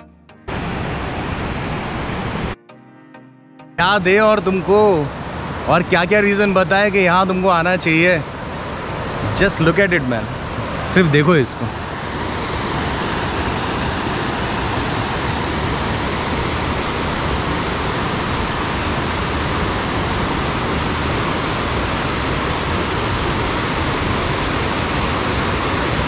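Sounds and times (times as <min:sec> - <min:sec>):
river water rushing over rapids: 0:00.5 - 0:02.6, 0:04.0 - 0:26.0.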